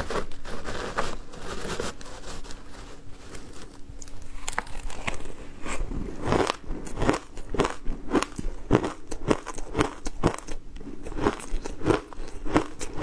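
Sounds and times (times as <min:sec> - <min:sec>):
ice crunching while chewed: 0:00.0 - 0:13.0.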